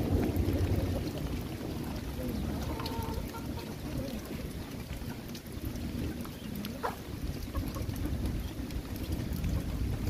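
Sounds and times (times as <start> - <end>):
steady rain: 0.0 - 10.0
wind rumbling on microphone: 0.0 - 10.0.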